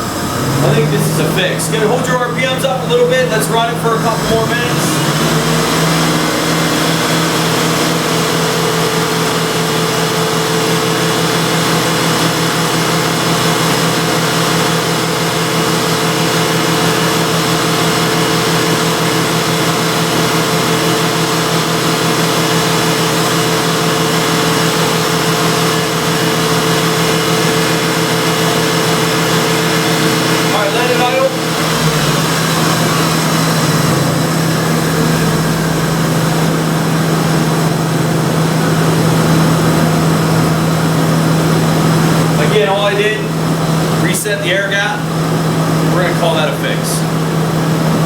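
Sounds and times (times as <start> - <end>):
car engine running at raised rpm: 0.0 - 48.0.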